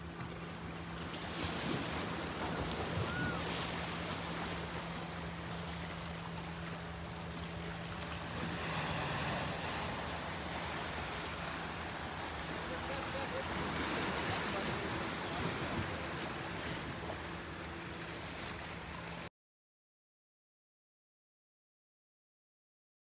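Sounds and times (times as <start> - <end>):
low hum: 0.0 - 19.3
waves lapping on rocky shore: 0.0 - 19.3.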